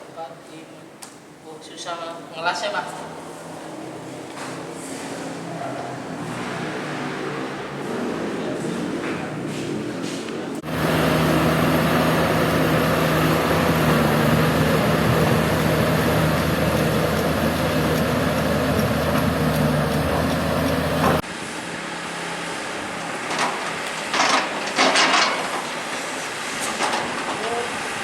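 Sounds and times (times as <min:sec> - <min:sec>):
excavator diesel engine running: 0:05.5 - 0:28.0.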